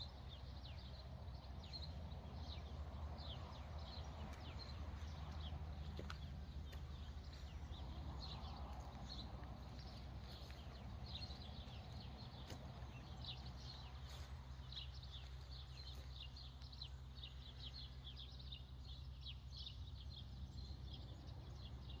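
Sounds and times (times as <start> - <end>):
faint low rumble: 0.0 - 21.4
birds chirping: 0.0 - 22.0.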